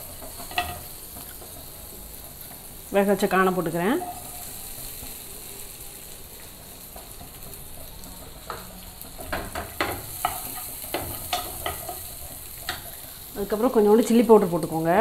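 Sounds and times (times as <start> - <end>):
corn sizzling in butter: 0.0 - 15.0.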